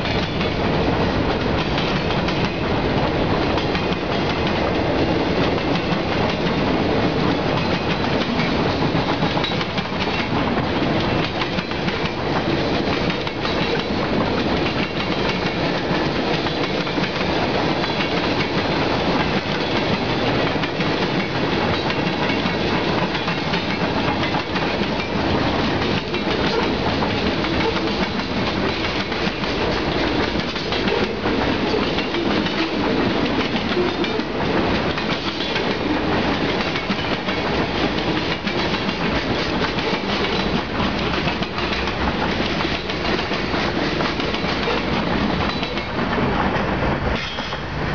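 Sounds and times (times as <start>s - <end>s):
quick clicks of train wheels: 0.0s - 47.9s
train wheels rumbling on rails: 0.0s - 47.9s.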